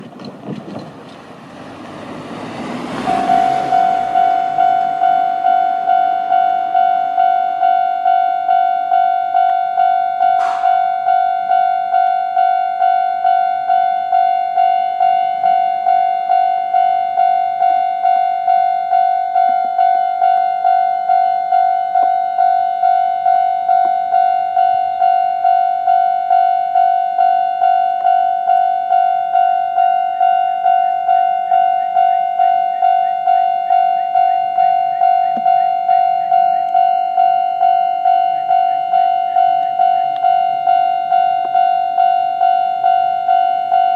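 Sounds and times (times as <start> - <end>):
level-crossing alarm bell dinging: 2.0 - 43.9.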